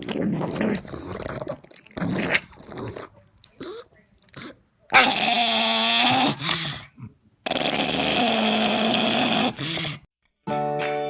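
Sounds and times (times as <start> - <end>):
dog growling: 0.0 - 10.1.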